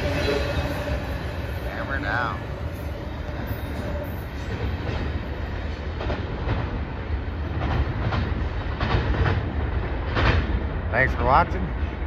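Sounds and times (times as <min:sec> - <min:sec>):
freight train rumbling on rails: 0:00.0 - 0:12.0
wheels clacking over rail joints: 0:00.0 - 0:12.0.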